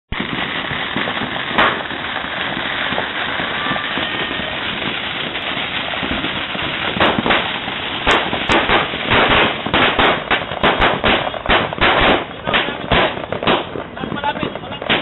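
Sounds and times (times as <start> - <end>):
firecracker bangs: 0.1 - 15.0
firework fountain hissing and crackling: 0.1 - 15.0.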